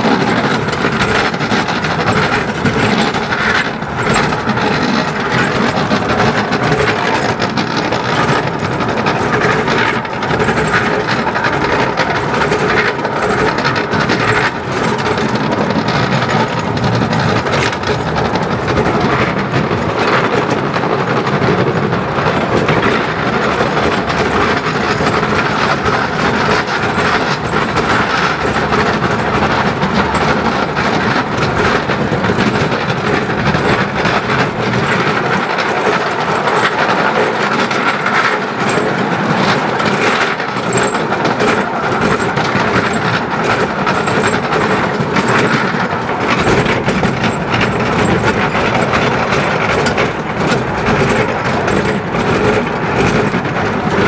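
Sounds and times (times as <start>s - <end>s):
steam train rumbling: 0.0s - 54.0s
wheels clicking over rail joints: 0.0s - 54.0s.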